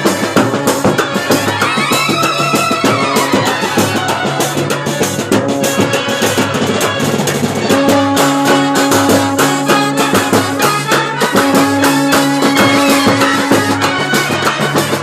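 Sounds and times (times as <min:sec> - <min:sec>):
brass and reed band melody: 0:00.0 - 0:15.0
fast beating of drums: 0:00.0 - 0:15.0.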